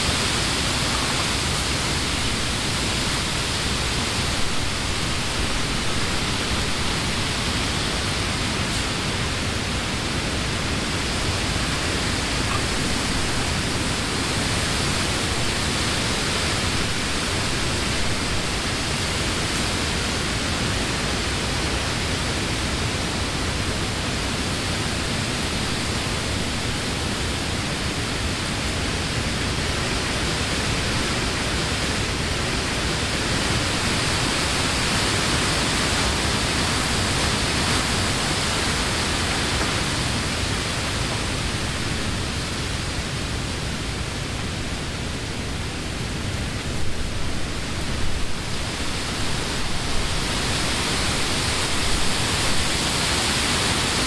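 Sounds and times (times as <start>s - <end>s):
wind rushing through leaves: 0.0s - 54.0s.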